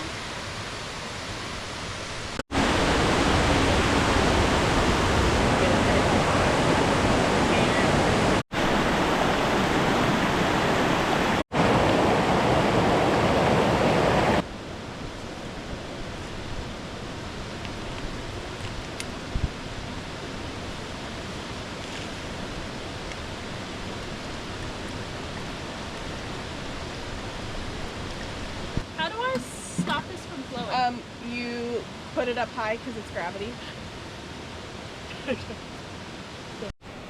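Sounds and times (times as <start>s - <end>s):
rushing waterfall water: 0.0s - 31.0s, 33.6s - 37.0s.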